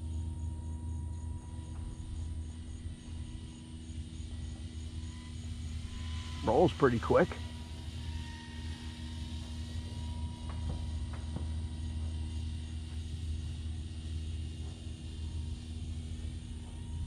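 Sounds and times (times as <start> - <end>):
model plane motor hum: 0.0 - 17.0.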